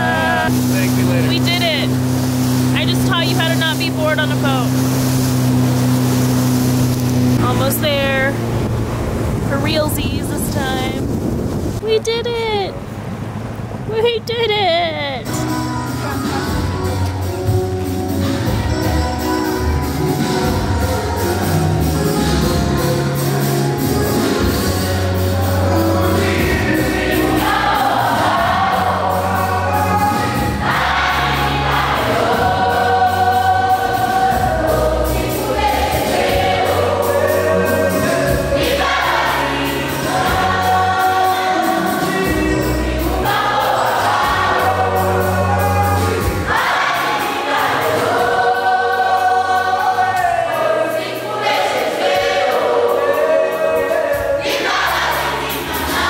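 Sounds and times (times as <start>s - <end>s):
choir singing gospel: 0.0s - 8.8s, 15.3s - 56.0s
deep sustained bass notes: 0.0s - 46.7s.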